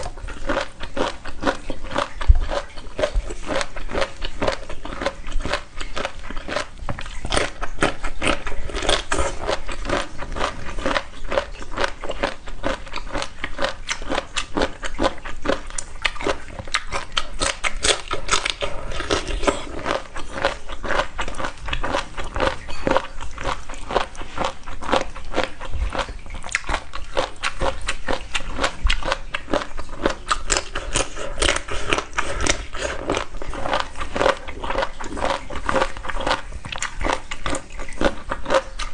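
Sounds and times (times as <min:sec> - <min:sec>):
person chewing crisp food: 0:00.0 - 0:38.9.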